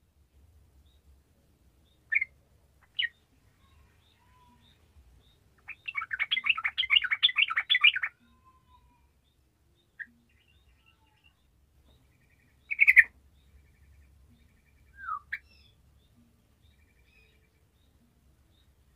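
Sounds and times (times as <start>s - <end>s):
bird chirping and singing: 2.1s - 18.9s.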